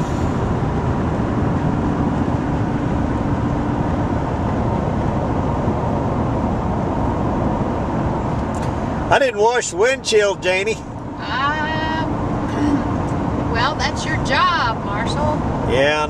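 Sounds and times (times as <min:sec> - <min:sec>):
truck engine running: 0:00.0 - 0:16.0
tyre road noise: 0:00.0 - 0:16.0.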